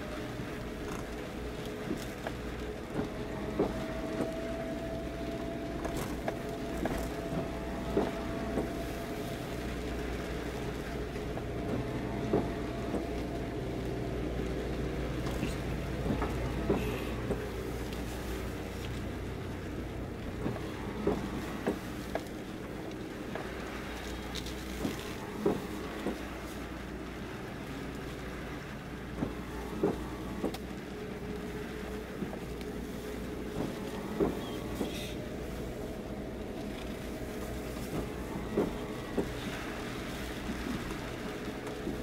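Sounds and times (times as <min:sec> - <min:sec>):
car engine humming: 0:00.0 - 0:42.0
rain ticking on car body: 0:00.0 - 0:42.0.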